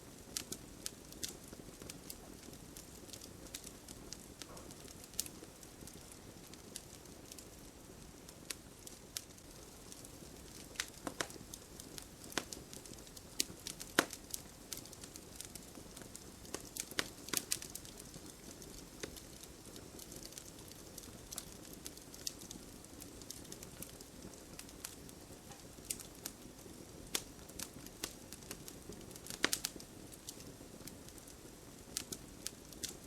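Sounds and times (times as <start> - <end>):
low hiss of burning fire: 0.0 - 33.0
campfire crackling and popping: 0.1 - 33.0.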